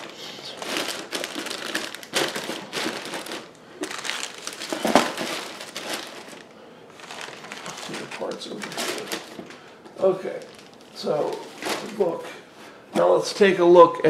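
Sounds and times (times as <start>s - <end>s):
plastic bags crinkling: 0.0s - 12.3s.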